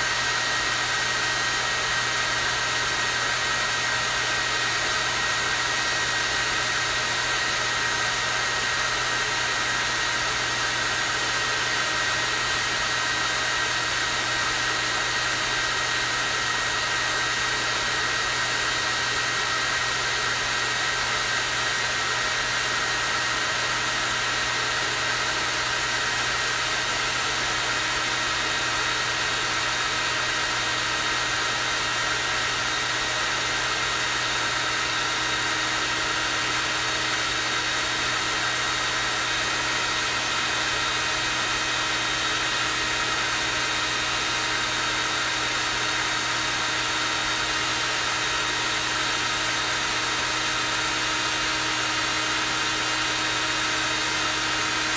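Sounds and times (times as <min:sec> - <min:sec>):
hair dryer running: 0:00.0 - 0:54.9.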